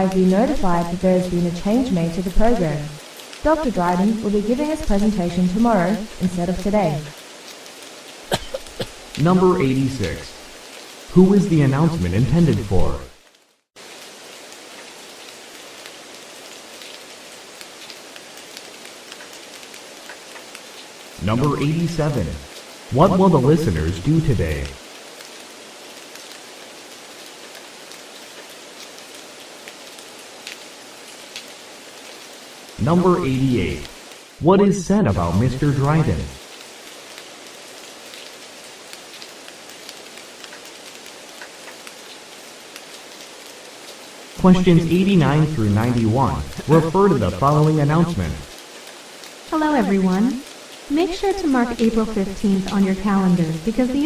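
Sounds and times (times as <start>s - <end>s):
steady rain-like hiss: 0.0s - 54.0s.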